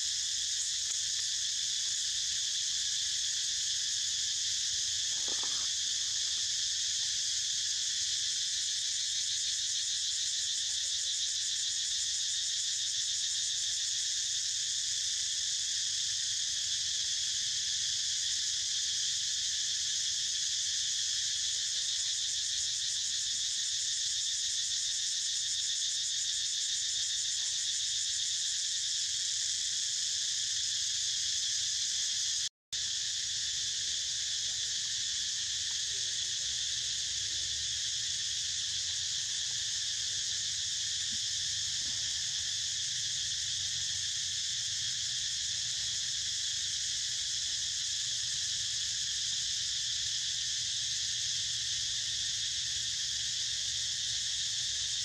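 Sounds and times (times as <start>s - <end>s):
insects buzzing: 0.0s - 16.9s, 17.6s - 55.0s.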